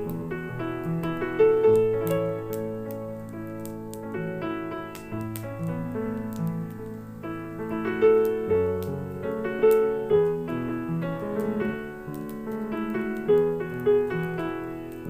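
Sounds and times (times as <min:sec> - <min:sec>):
log fire crackling: 0:00.0 - 0:15.0
slow piano ballad: 0:00.0 - 0:15.0.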